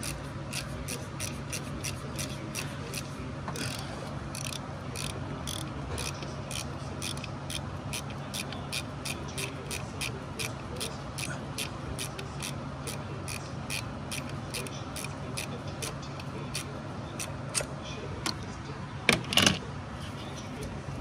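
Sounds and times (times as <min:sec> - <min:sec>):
ratchet wrench clicking: 0:00.0 - 0:17.7
steady low hum: 0:00.0 - 0:21.0.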